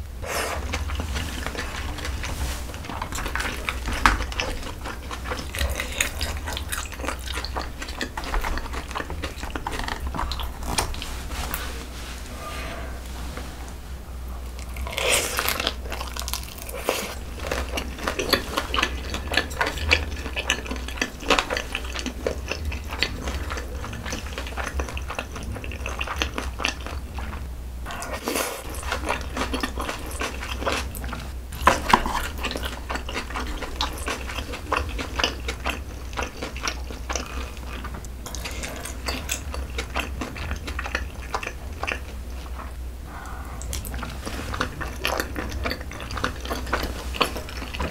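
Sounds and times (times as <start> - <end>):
person chewing food: 0.2 - 11.8, 14.4 - 47.9.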